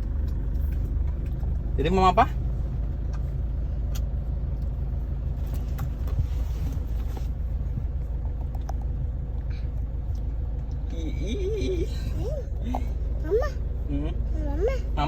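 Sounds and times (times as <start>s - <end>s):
car rumbling: 0.0s - 15.0s.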